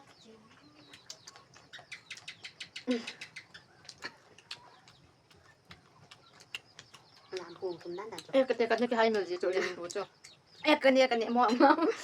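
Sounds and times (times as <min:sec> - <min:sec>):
chewing and wet mouth clicks: 0:00.0 - 0:10.6.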